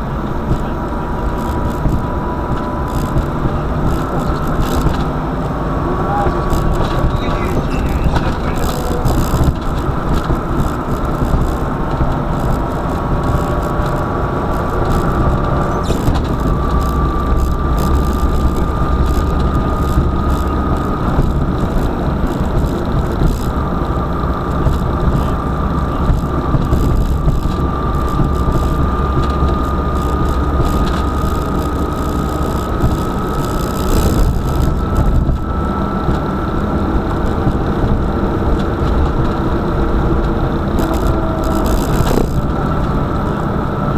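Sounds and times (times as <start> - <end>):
car engine and road rumble: 0.0 - 43.9
thin whine climbing in pitch: 0.0 - 43.9.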